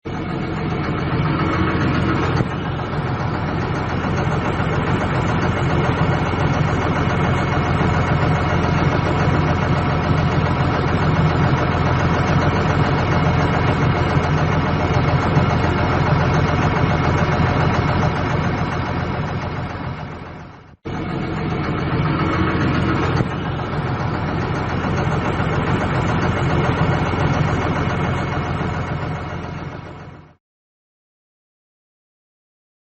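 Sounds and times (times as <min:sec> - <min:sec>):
diesel engine running: 0:00.1 - 0:30.4.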